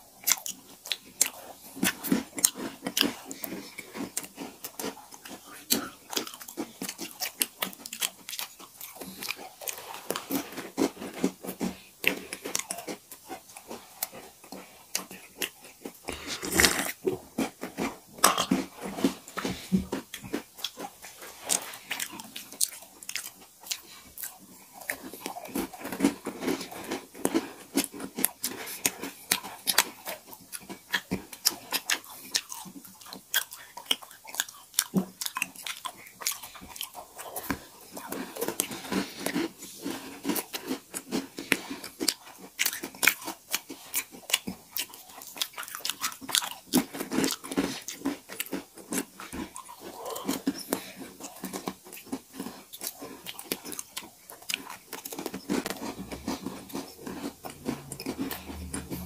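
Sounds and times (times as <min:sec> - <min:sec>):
chewing crisp cookies: 0:00.0 - 0:59.0.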